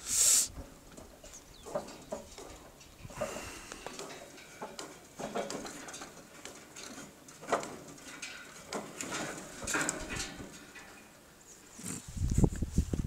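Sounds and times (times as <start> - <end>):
shoes clanking on steel ladder: 0.6 - 11.7.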